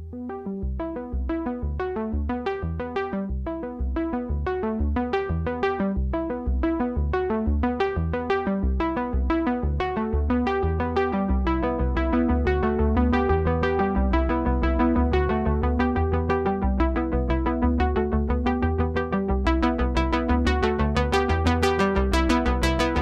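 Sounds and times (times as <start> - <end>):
synthesizer and keyboard notes: 0.0 - 23.0
steady bass pulse: 0.1 - 23.0.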